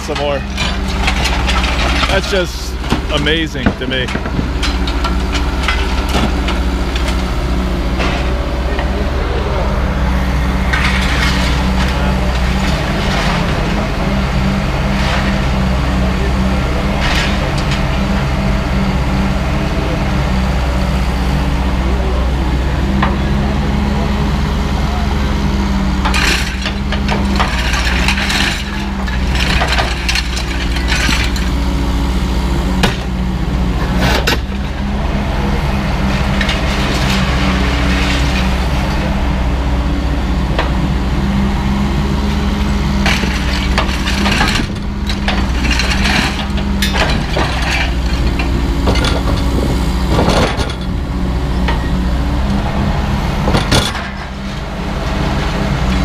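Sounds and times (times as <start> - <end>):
scrap metal crashing and clanking: 0.0 - 20.2, 25.9 - 56.0
engine running: 0.0 - 56.0.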